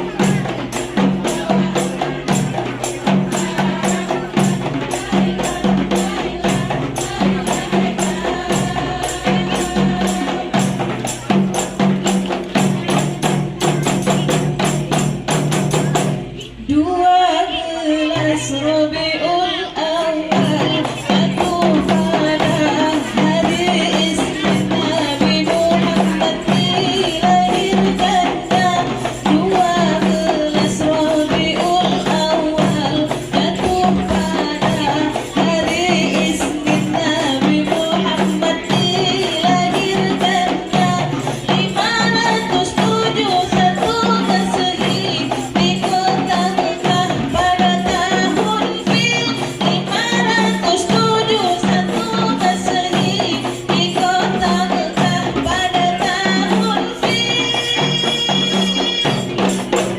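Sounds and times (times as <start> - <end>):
frame drums playing fast rhythm: 0.0 - 16.7, 17.4 - 59.9.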